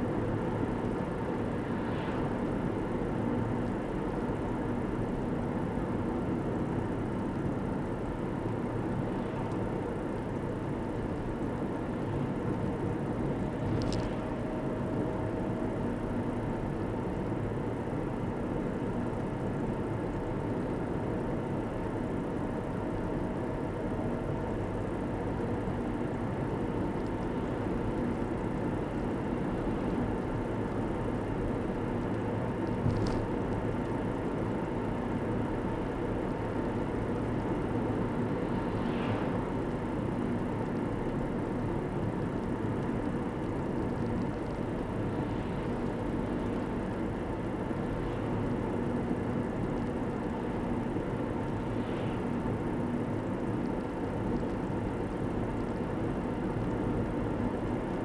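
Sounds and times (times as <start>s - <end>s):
car driving at road speed: 0.0s - 58.0s.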